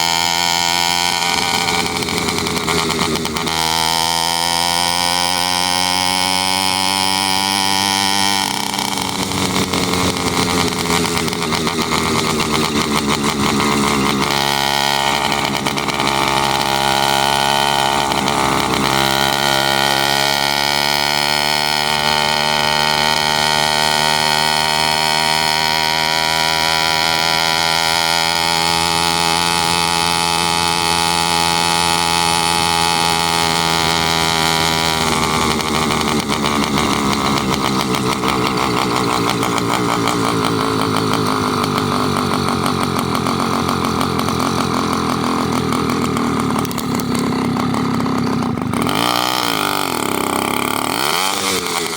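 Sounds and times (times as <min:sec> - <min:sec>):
motorized bicycle engine: 0:00.0 - 0:51.9.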